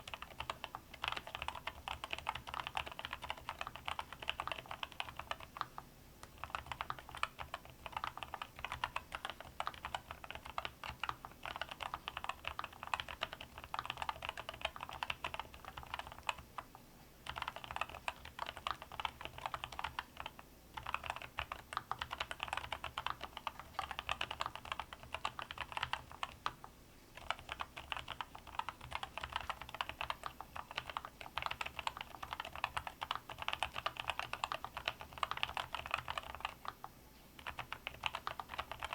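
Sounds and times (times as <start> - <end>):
mechanical keyboard typing: 0.0 - 26.6, 27.2 - 38.9.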